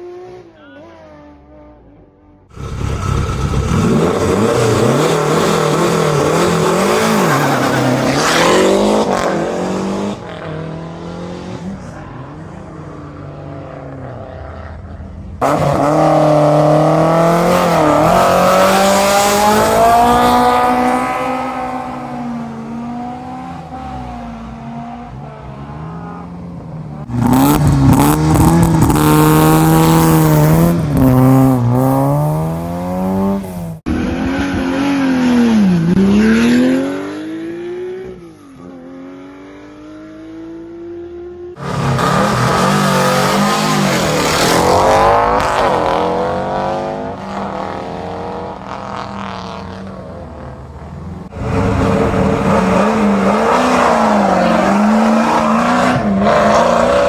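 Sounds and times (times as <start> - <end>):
rally car engines revving: 2.5 - 57.0.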